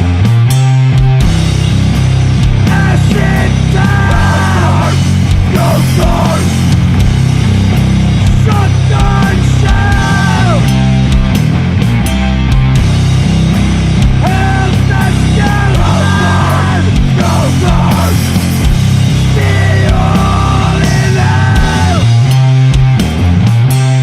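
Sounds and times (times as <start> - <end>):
drums: 0.0 - 24.0
heavy distorted guitars and bass: 0.0 - 24.0.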